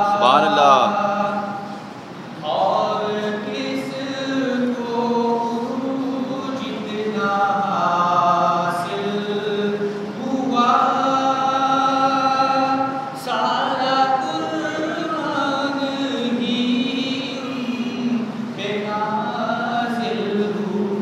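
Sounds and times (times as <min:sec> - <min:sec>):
man singing unaccompanied: 0:00.0 - 0:01.7, 0:02.3 - 0:21.0.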